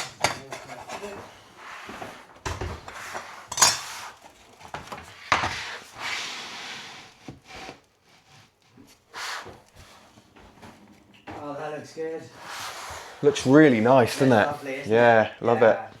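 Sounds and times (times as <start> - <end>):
wood rubbing and scraping: 0.0 - 15.3.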